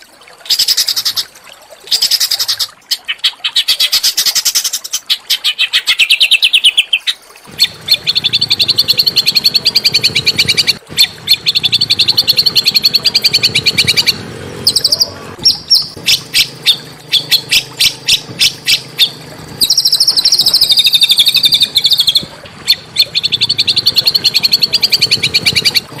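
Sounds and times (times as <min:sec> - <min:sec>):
songbird singing harsh trills: 0:01.9 - 0:26.0.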